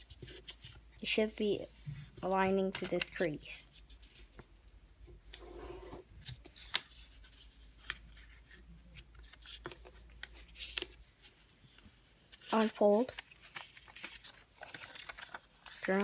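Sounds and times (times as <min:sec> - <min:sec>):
paper rustling and rubbing: 0:00.0 - 0:04.4, 0:05.2 - 0:16.0.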